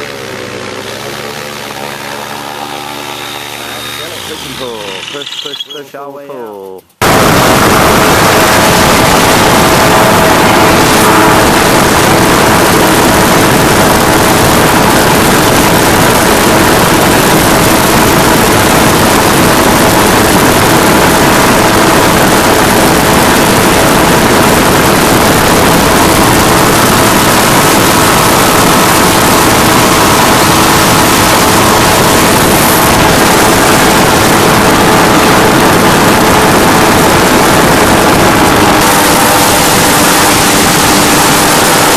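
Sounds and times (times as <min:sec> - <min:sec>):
engine and propeller drone: 0:00.0 - 0:05.6, 0:06.6 - 0:41.9
dense rushing noise: 0:06.9 - 0:41.9.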